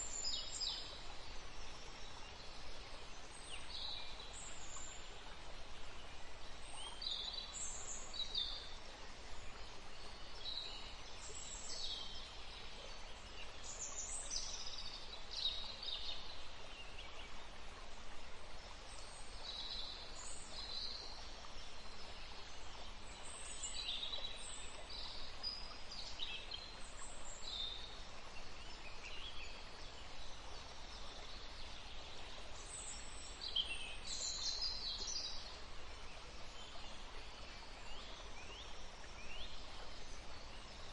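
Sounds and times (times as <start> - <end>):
outdoor background hiss: 0.0 - 40.9.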